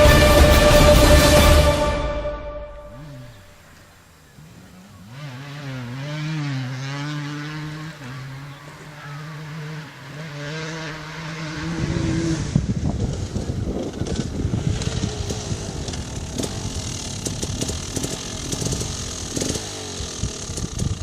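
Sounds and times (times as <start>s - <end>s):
dirt bike engine running: 2.8s - 21.0s.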